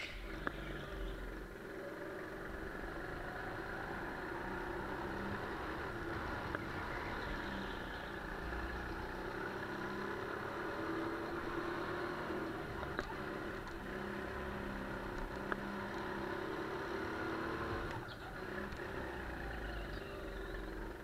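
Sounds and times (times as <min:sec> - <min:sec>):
kart engine running at speed: 0:00.1 - 0:21.0.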